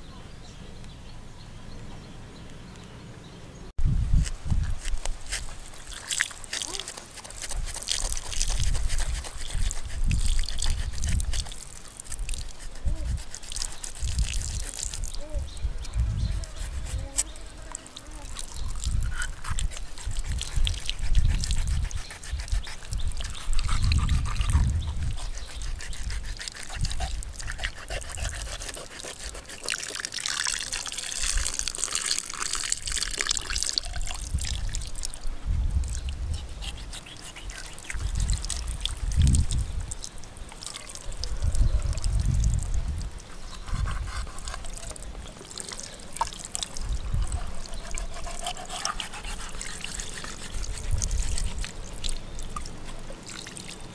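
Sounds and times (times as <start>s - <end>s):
knife squelching and scraping flesh: 4.1s - 35.2s, 35.8s - 53.9s
water trickling and splashing: 4.2s - 53.9s.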